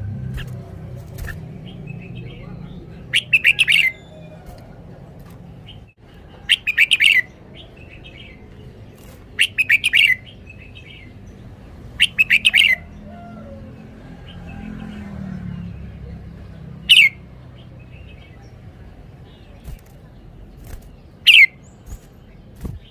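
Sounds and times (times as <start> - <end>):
bird singing: 0.0 - 22.9.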